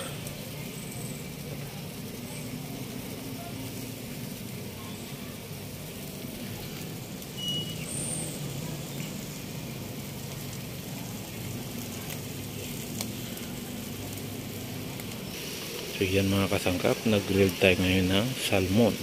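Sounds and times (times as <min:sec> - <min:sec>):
fish sizzling on a grill: 0:00.0 - 0:19.0.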